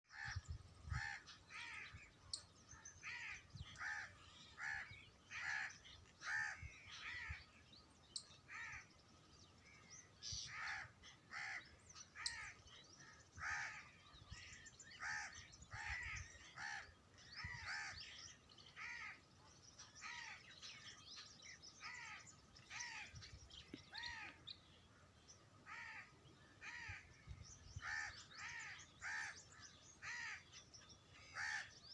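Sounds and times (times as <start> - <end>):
birds calling: 0.0 - 31.9.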